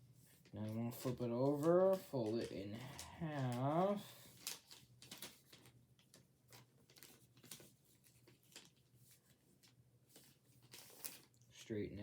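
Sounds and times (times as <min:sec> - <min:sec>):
paper being folded and creased: 0:00.1 - 0:11.6.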